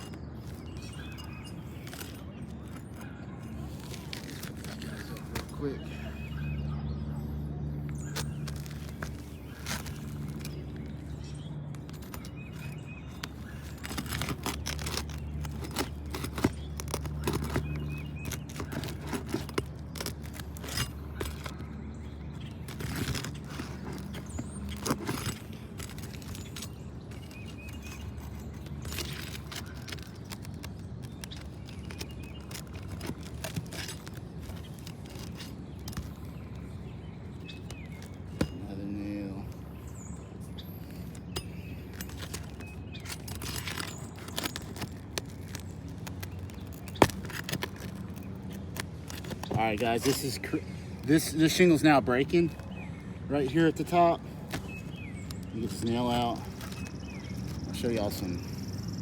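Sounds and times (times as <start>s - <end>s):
roof shingles being pried up: 0.0s - 6.4s, 8.0s - 59.0s.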